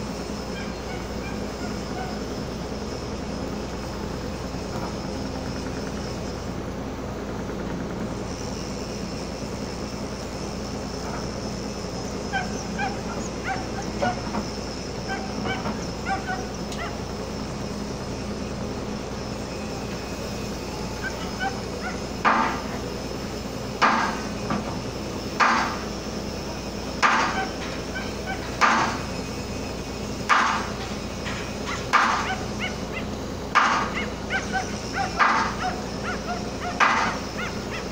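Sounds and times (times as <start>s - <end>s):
ship engine drone: 0.0s - 37.9s.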